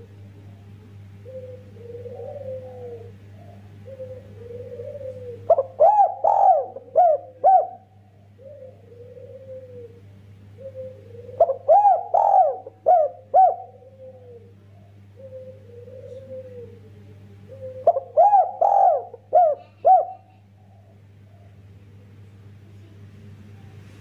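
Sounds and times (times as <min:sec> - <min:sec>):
dove cooing: 0:00.0 - 0:21.7.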